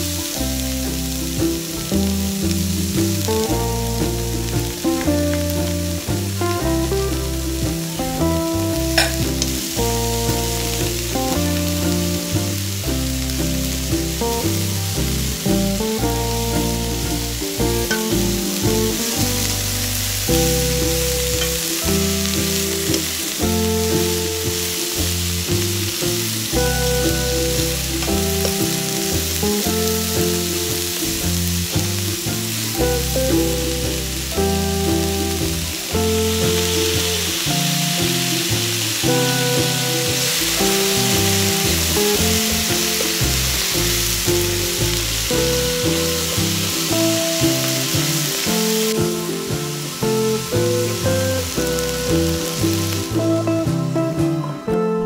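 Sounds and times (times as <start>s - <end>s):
food sizzling in a wok: 0.0s - 54.0s
background music: 0.0s - 55.0s.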